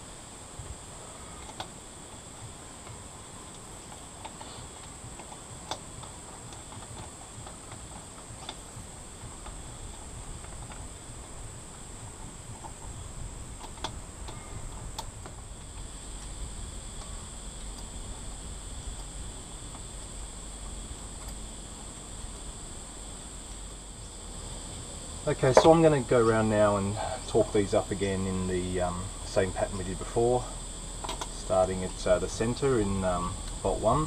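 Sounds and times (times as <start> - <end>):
insect chirring: 0.0 - 34.0.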